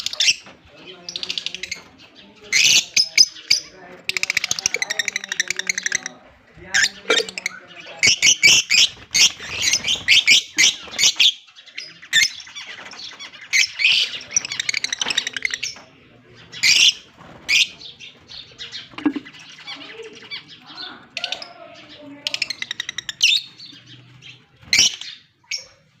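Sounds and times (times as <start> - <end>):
lovebirds squawking and chirping: 0.0 - 26.0.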